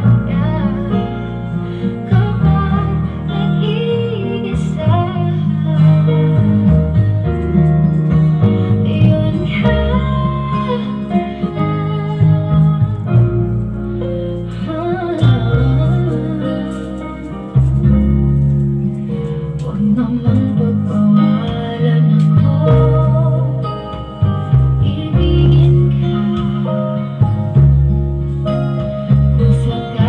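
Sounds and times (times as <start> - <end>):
song through a subwoofer: 0.0 - 30.0.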